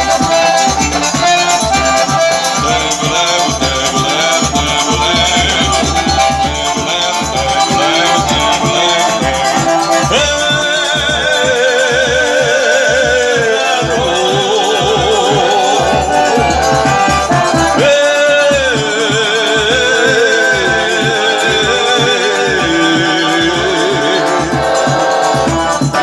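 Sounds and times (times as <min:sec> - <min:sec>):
loud folk dance music: 0:00.0 - 0:26.0
low drum beat: 0:00.0 - 0:26.0
wavering melody: 0:00.0 - 0:26.0.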